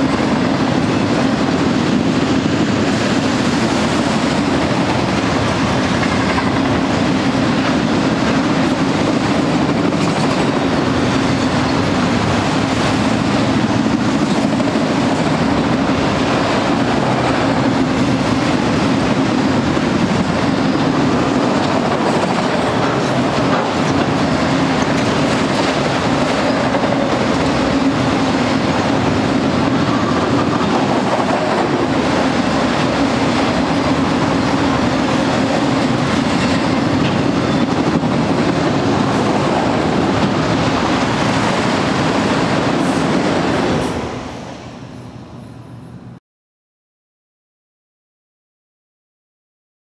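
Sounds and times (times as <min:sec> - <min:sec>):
train wheels rumbling on rails: 0:00.0 - 0:46.2.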